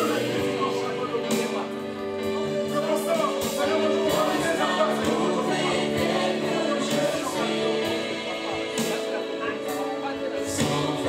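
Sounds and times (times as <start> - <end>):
voices singing gospel: 0.0 - 11.0.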